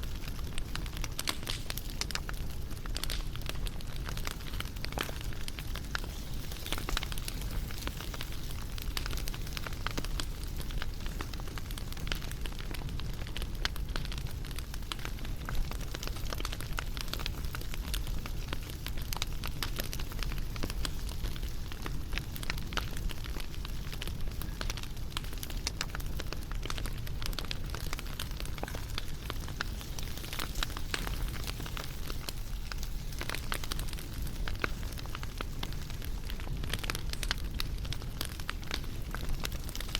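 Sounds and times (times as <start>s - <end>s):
low rumble of burning: 0.0s - 39.9s
wood fire crackling: 0.0s - 39.9s.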